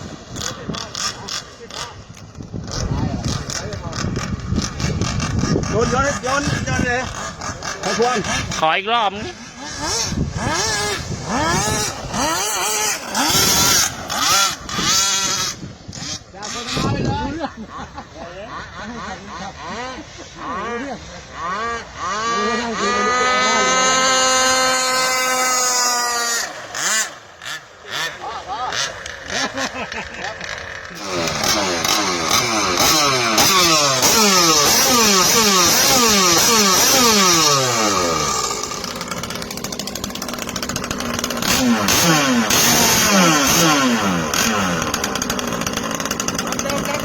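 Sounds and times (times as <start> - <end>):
model boat engine revving: 0.0 - 47.0.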